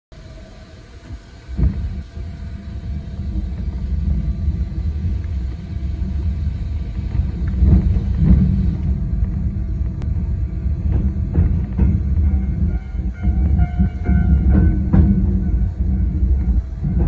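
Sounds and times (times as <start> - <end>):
train motors and wheels rumbling: 0.1 - 17.0.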